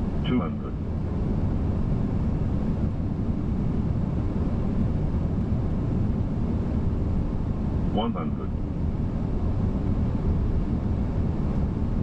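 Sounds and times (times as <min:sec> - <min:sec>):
cockpit airflow and engine rush: 0:00.0 - 0:12.0.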